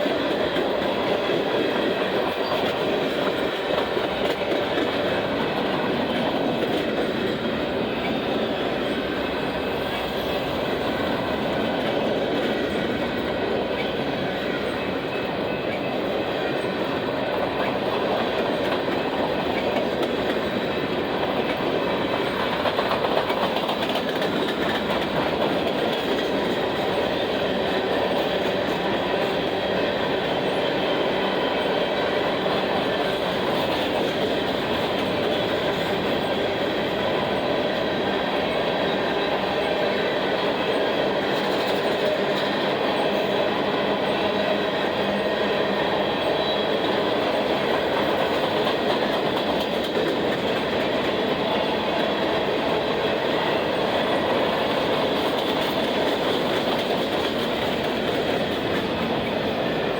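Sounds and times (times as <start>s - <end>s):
freight train wheels clattering on rails: 0.0s - 59.9s.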